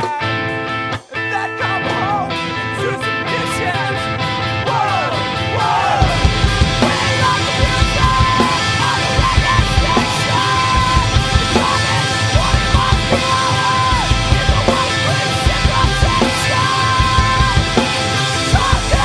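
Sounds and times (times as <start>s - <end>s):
drums: 0.0s - 19.0s
electric guitar: 0.0s - 19.0s
yelled singing: 1.1s - 19.0s.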